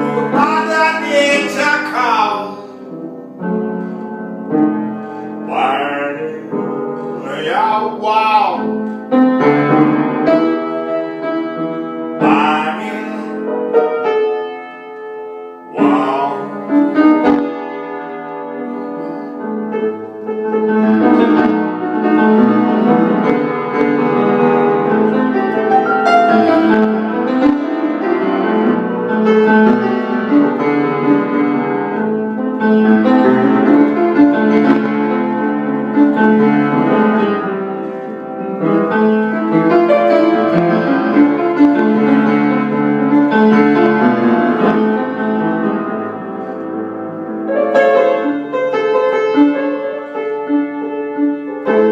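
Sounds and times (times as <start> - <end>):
blues piano playing: 0.0 - 51.9.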